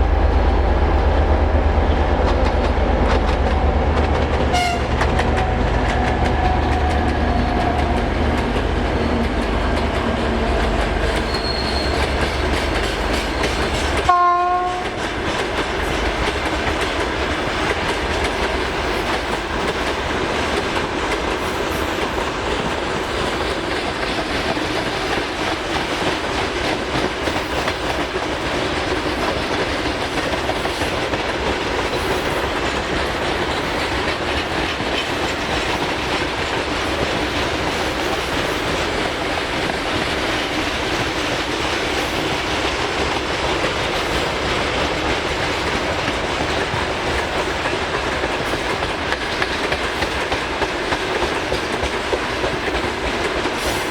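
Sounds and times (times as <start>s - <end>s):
freight train wheels rumbling on rails: 0.0s - 53.9s.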